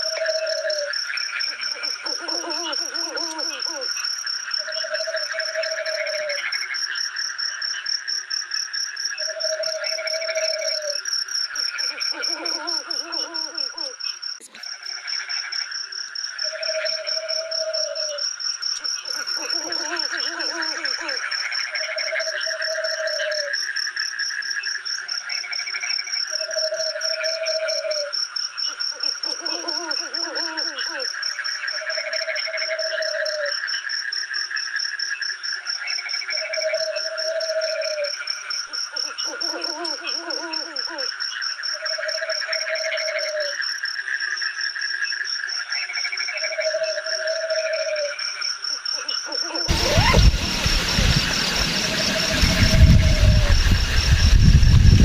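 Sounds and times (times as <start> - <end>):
frogs croaking: 0.0 - 55.0
insects trilling: 0.0 - 55.0.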